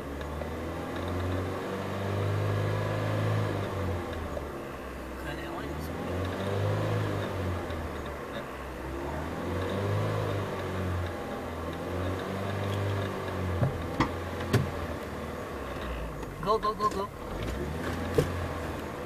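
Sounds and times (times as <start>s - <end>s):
car engine revving gently: 0.0s - 19.0s.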